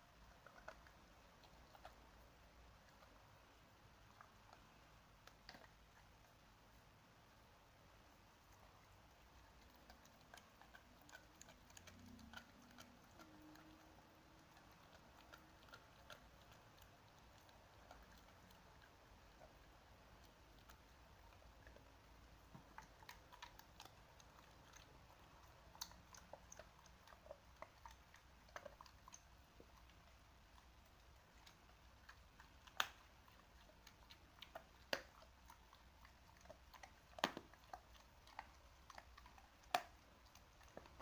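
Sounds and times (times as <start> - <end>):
dogs chewing and crunching: 0.0 - 6.7, 8.3 - 41.0.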